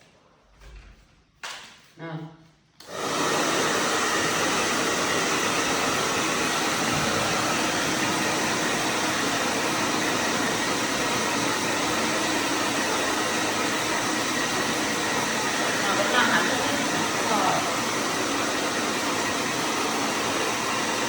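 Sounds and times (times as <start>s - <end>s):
hair dryer blowing: 2.8s - 21.0s.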